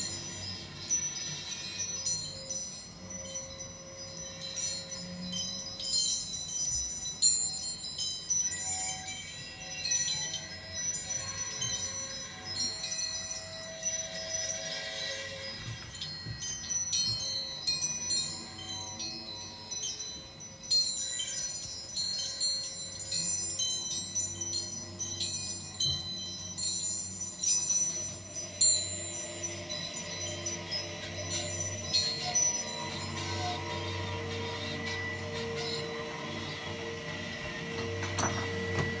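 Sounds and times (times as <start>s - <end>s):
high chime-like ringing tones: 0.0s - 39.0s.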